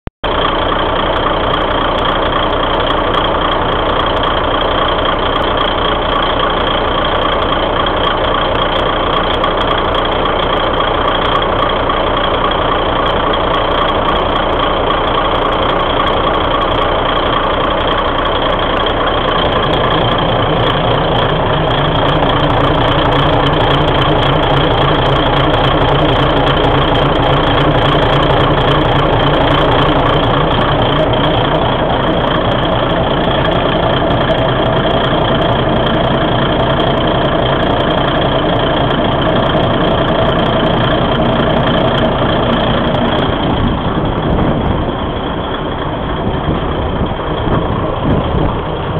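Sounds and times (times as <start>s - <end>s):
diesel engine idling: 0.2s - 48.9s.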